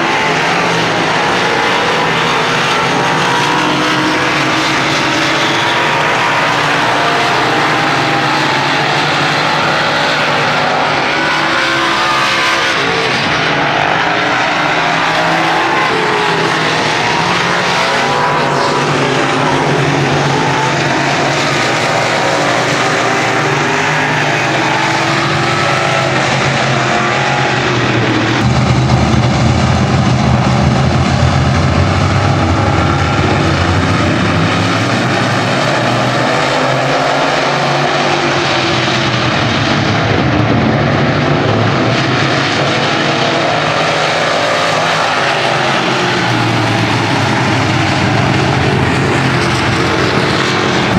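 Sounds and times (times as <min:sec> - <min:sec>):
racing engines at speed: 0:00.0 - 0:50.9.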